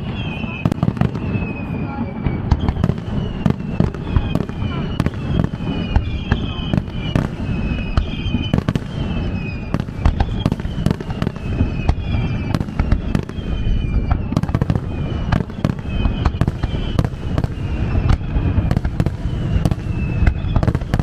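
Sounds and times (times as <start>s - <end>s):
fireworks bursting: 0.0s - 21.0s
fireworks whistling: 0.0s - 21.0s.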